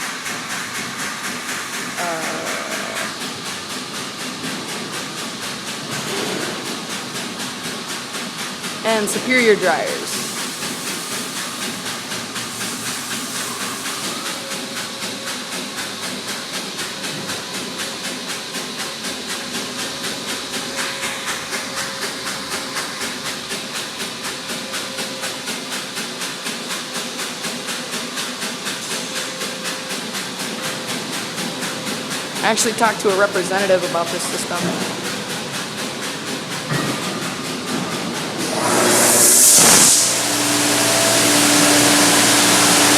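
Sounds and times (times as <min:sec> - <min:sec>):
car wash spray hissing: 0:00.0 - 0:04.4, 0:05.2 - 0:16.8, 0:17.9 - 0:42.9.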